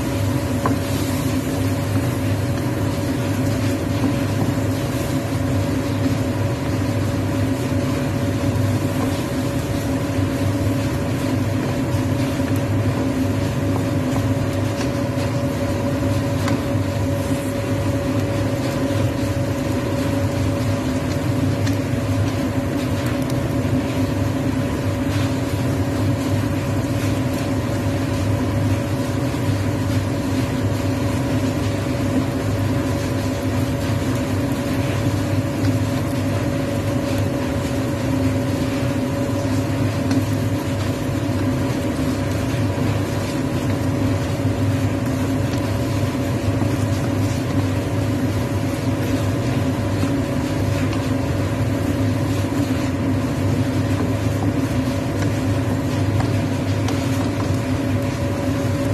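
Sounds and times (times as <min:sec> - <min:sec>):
food frying in a wok: 0:00.0 - 0:58.9
steady machine hum: 0:00.0 - 0:58.9.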